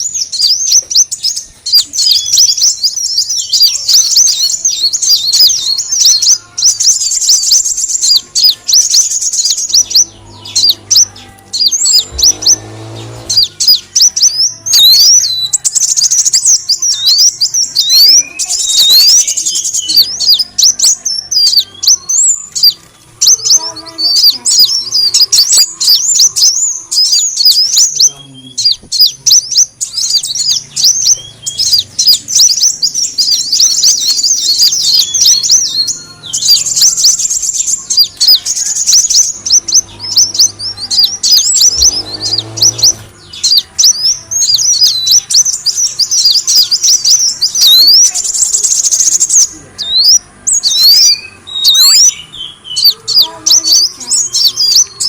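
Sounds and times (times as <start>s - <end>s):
sunbird chirping: 0.0s - 55.0s.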